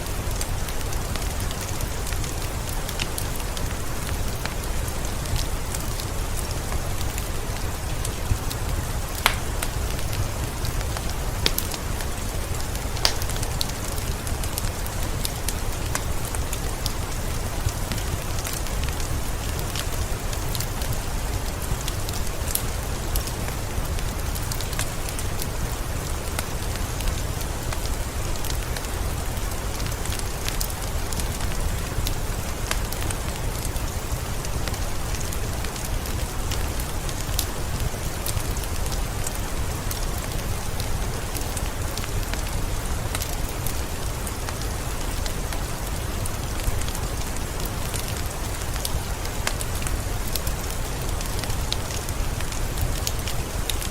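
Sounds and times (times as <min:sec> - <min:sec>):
steady rain falling: 0:00.0 - 0:53.9
wood fire crackling: 0:00.0 - 0:53.9.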